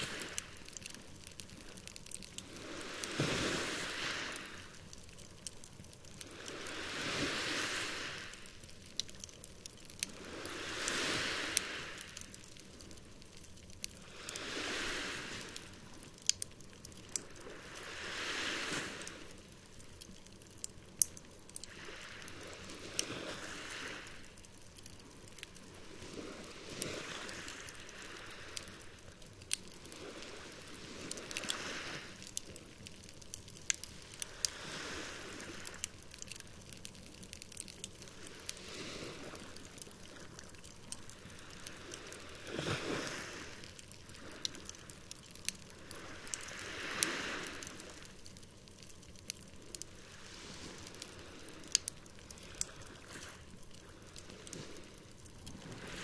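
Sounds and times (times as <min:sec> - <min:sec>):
campfire crackling and popping: 0:00.0 - 0:56.0
small waves washing ashore: 0:00.0 - 0:56.0.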